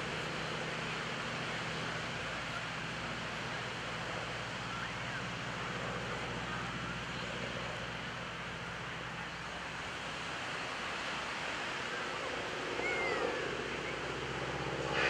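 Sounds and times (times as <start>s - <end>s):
distant radial aircraft engine drone: 0.0s - 15.0s
surf: 0.0s - 15.0s
wind: 0.0s - 15.0s.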